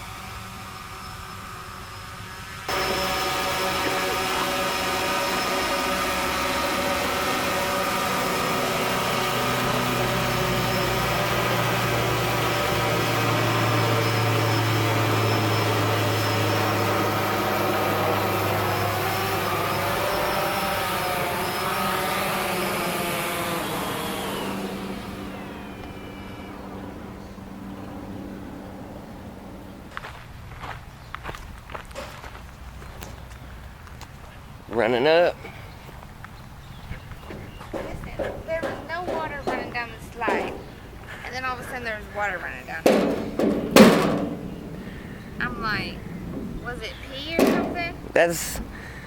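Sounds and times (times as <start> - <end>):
drone rotors whining: 0.0 - 29.9, 35.9 - 49.0.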